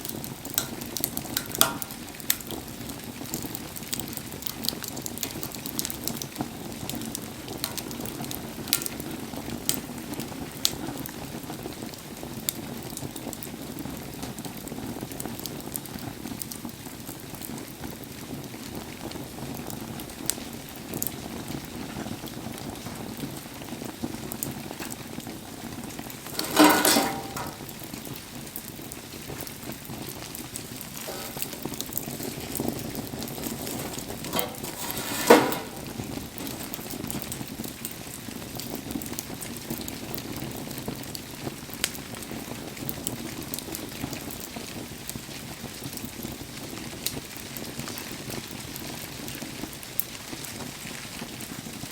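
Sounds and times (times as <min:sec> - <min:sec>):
rain patter: 0:00.0 - 0:51.9
wood fire crackling: 0:00.0 - 0:51.9.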